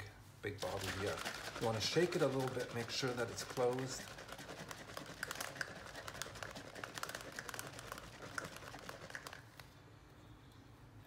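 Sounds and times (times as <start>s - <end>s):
paint bottle being shaken: 0.6s - 9.7s.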